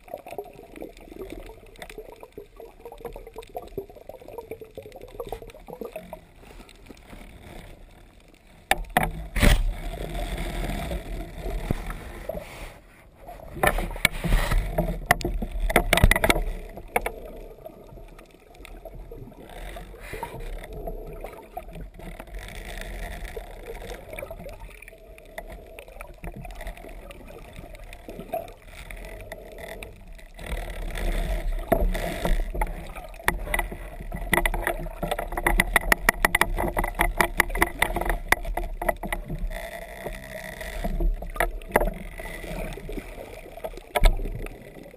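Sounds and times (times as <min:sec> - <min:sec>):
muffled underwater water noise: 0:00.0 - 0:44.9.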